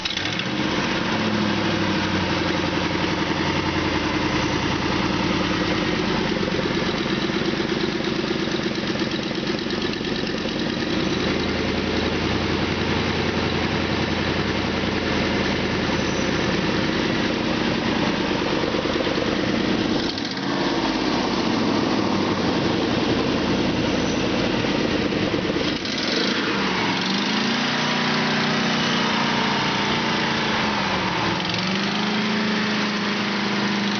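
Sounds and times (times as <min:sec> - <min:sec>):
truck engine running: 0:00.0 - 0:33.9.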